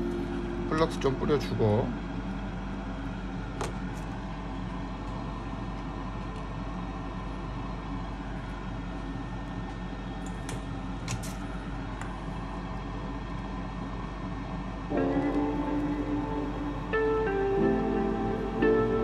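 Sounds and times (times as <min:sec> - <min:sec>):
equipment hum and fan noise: 0:00.0 - 0:19.0.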